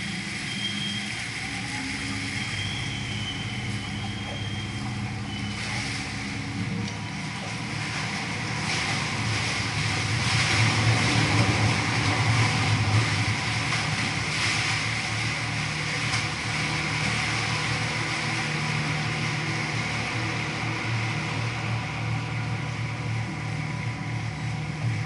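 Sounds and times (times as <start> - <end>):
boat engine humming: 0.0 - 25.0
water hissing along hull: 0.0 - 25.0.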